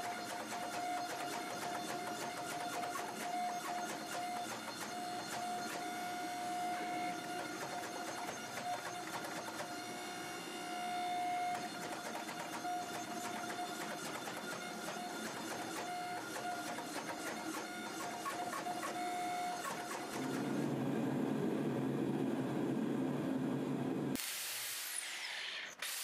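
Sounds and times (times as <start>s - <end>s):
hydraulic press whine: 0.0s - 26.0s.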